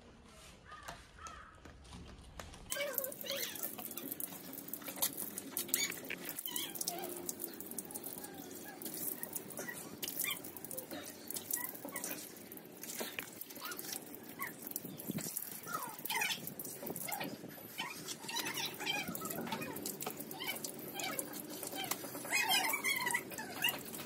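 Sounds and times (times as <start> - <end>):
tap water splashing on concrete: 0.9 - 24.0.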